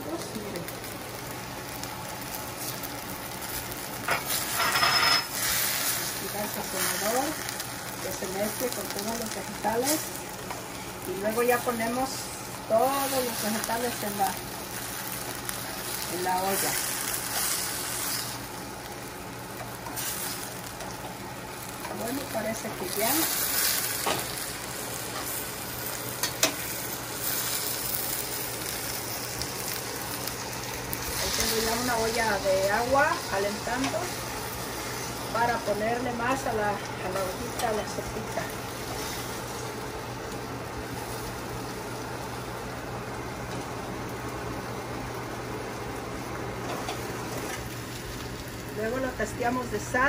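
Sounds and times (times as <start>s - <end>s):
vegetables sizzling in pan: 0.0s - 50.0s.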